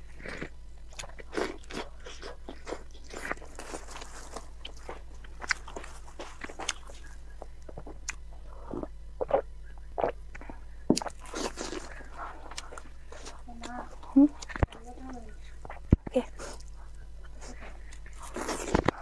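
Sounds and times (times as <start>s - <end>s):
biting and chewing meat: 0.0s - 19.0s
low steady hum: 0.0s - 19.0s.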